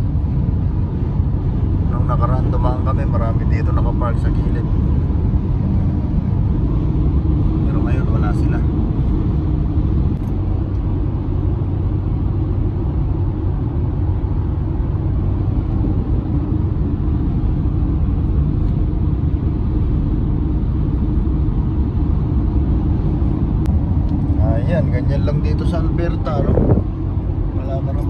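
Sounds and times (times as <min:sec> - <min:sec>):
car road rumble: 0:00.0 - 0:28.0.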